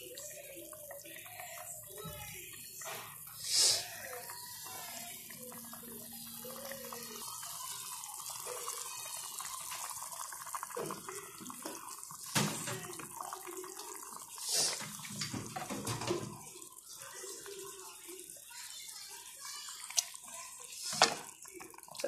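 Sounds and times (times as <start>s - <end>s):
water running from a tap: 0.0s - 22.0s.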